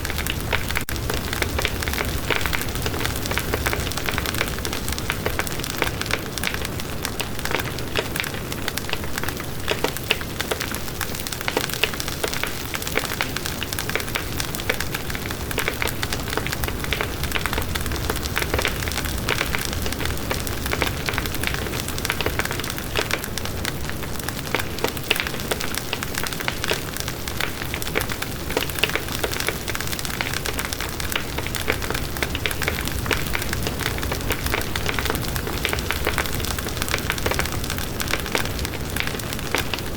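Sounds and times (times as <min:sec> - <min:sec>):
low rumble of flame: 0:00.0 - 0:09.4, 0:12.9 - 0:39.9
campfire crackling and popping: 0:00.0 - 0:39.9.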